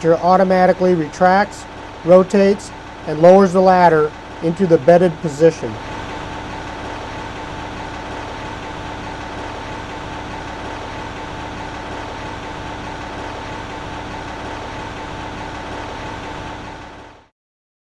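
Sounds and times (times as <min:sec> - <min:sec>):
constant mechanical whine: 0:00.0 - 0:17.3
truck engine idling: 0:00.0 - 0:17.3.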